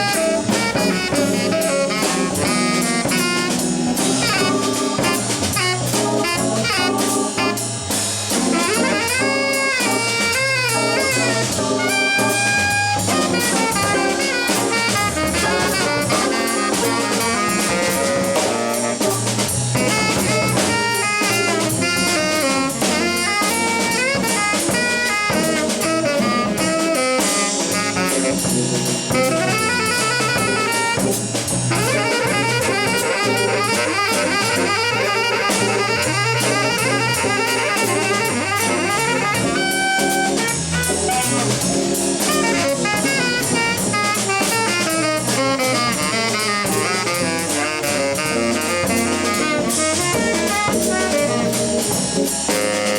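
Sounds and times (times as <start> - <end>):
drum kit with cymbals: 0.0 - 52.9
saxophone melodic lines: 0.0 - 52.9.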